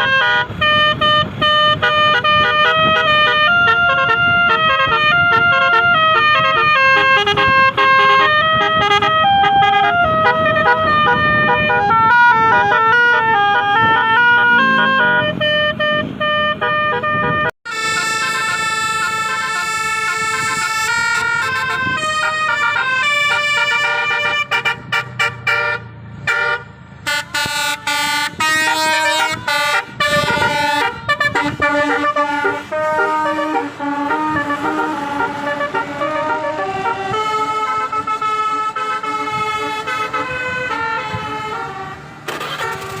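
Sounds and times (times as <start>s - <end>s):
bus melody horn playing tune: 0.0s - 43.0s.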